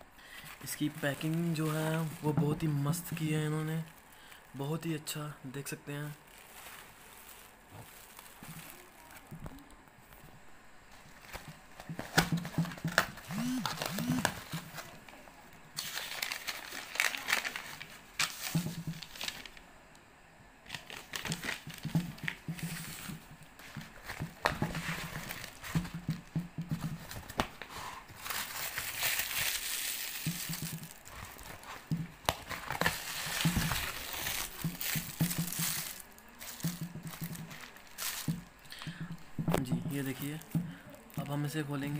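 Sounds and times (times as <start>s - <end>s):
parcel handling noises: 0.2s - 4.9s, 5.6s - 10.2s, 10.9s - 19.6s, 20.6s - 41.9s
paper packaging crinkling: 0.2s - 9.7s, 10.9s - 19.6s, 20.6s - 41.9s.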